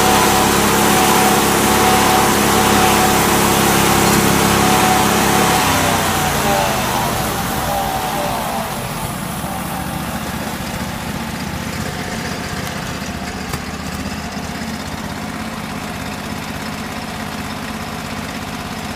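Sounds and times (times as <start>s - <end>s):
sawmill engine idling: 0.0s - 18.9s.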